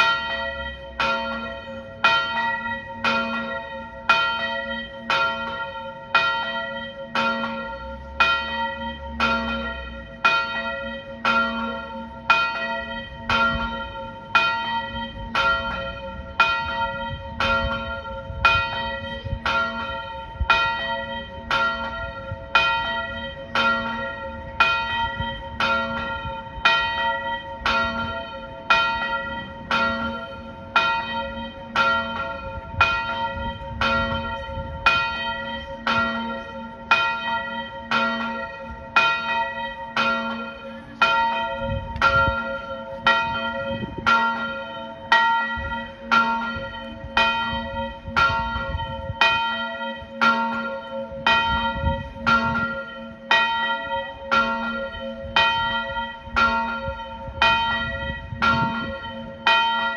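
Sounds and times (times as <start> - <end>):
large church bell tolling: 0.0 - 59.9.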